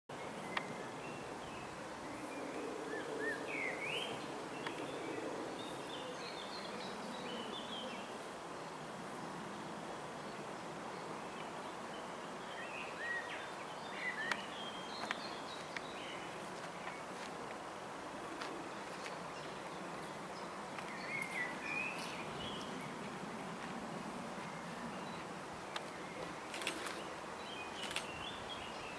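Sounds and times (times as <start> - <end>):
birds chirping: 0.1 - 28.9
steady background hiss: 0.1 - 28.9.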